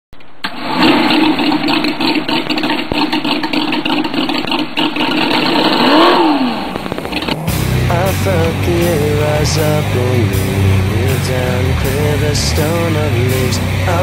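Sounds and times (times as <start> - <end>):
car engine running and revving: 2.0 - 14.0.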